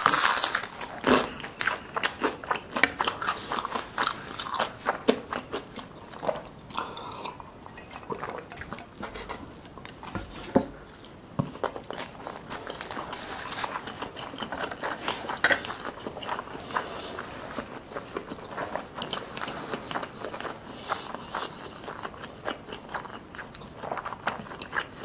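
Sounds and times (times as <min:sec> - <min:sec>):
wet chewing mouth sounds: 0:00.9 - 0:25.0.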